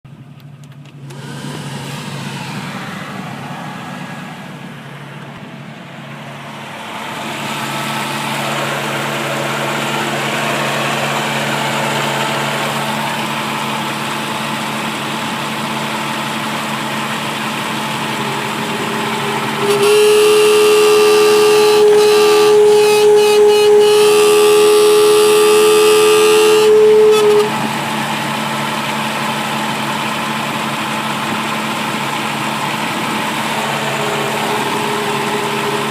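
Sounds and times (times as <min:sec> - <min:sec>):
strong steady whine: 0:00.4 - 0:35.9.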